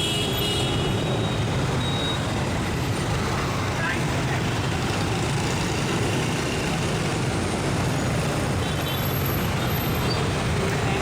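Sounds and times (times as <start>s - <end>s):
motorbike traffic buzzing: 0.0s - 11.0s.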